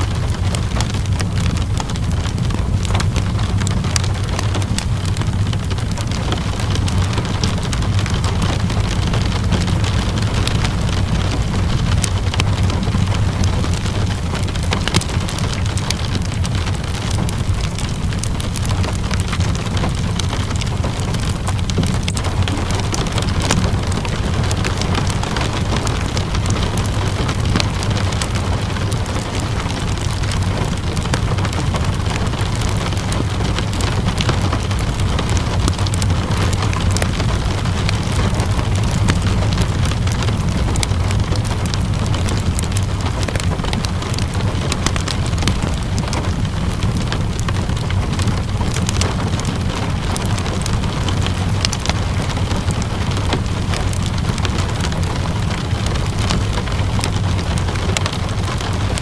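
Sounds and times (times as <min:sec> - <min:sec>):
deep low rumble: 0:00.0 - 0:59.0
steady rain hiss: 0:00.0 - 0:59.0
wood fire crackling: 0:00.0 - 0:59.0.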